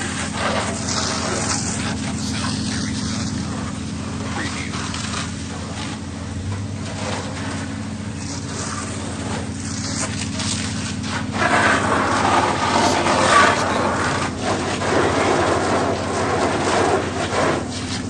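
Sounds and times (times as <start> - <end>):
fire engine humming: 0.0 - 18.0.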